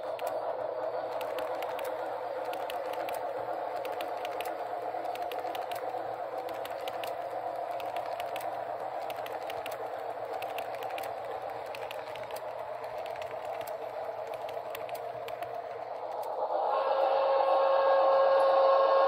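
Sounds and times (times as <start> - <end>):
wheels clicking on rails: 0.0 - 16.6
model train whirring hum: 0.0 - 19.0.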